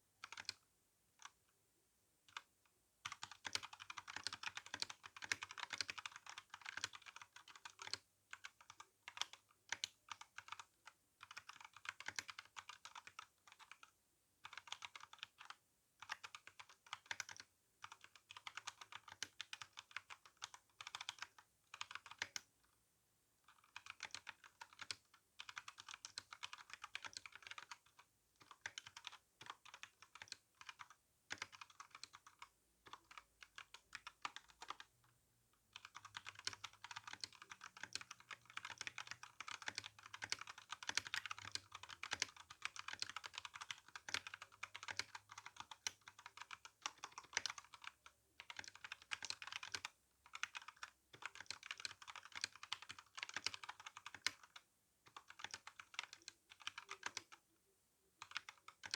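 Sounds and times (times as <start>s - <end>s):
mechanical keyboard typing: 0.2s - 0.6s, 3.1s - 22.5s, 23.5s - 34.9s, 35.8s - 57.4s, 58.2s - 58.9s.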